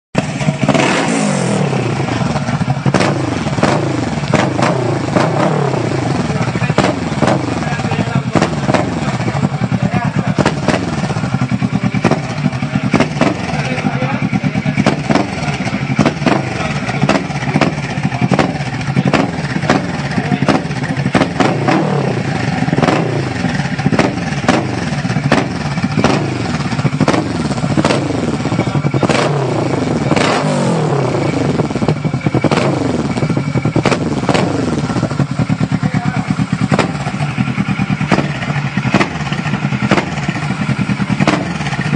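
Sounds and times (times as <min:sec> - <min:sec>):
motorcycle engine idling and revving: 0:00.1 - 0:41.9.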